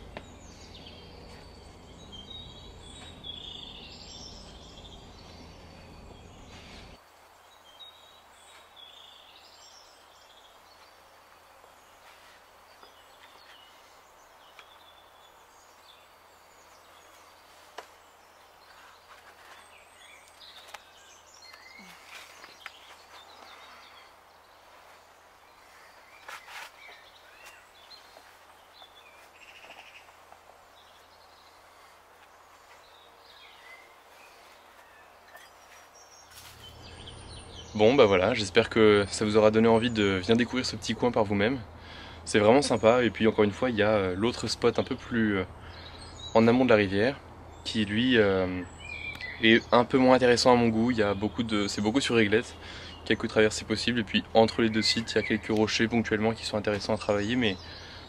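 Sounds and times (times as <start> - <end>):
bird chirps: 0.0 - 58.0
steady low hiss: 0.0 - 58.0.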